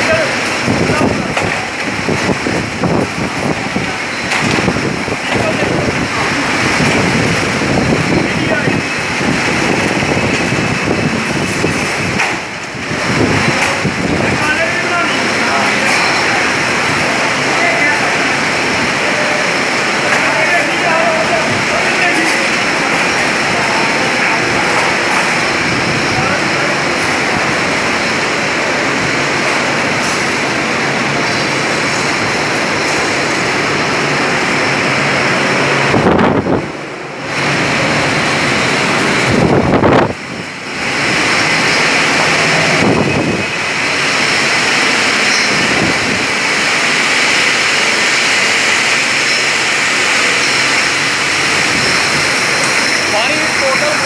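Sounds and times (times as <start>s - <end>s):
factory machinery din: 0.0s - 54.0s.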